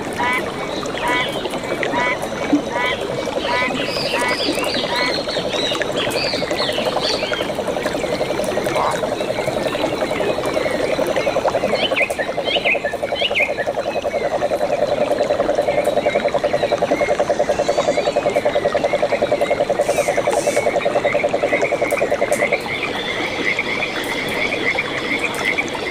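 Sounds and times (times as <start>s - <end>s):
frogs trilling in chorus: 0.0s - 25.9s.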